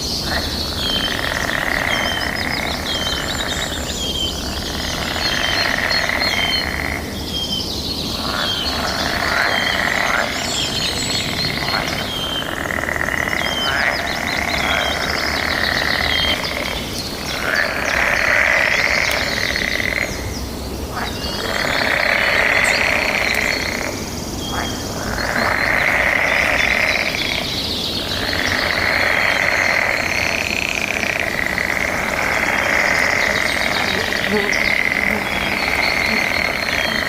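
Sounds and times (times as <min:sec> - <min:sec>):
frogs calling: 0:00.0 - 0:37.0
high chirping of birds or insects: 0:00.0 - 0:37.0.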